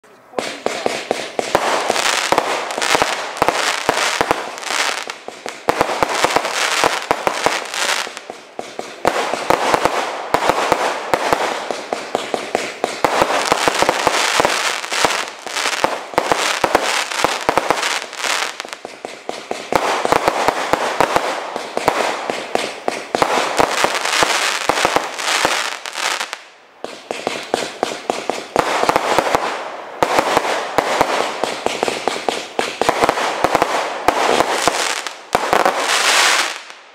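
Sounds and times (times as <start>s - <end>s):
firework crackling: 0.0s - 36.9s
fireworks launching and bursting: 0.0s - 36.9s.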